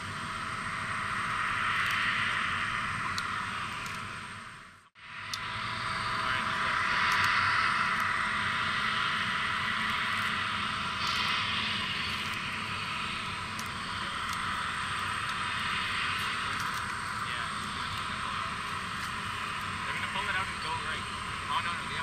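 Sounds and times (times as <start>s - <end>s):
aircraft turbine hiss: 0.0s - 22.0s.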